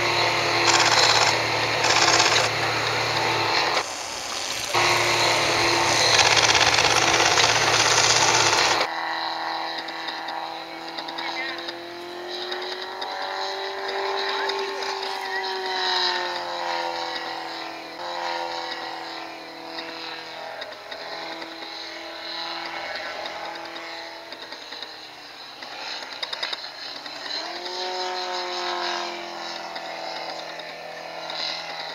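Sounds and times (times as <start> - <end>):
model aircraft engine droning: 0.0 - 31.9.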